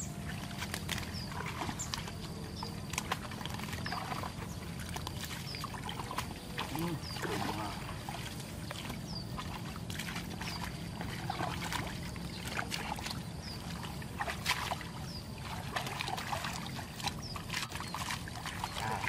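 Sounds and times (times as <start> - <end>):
hands splashing muddy water: 0.1 - 19.0.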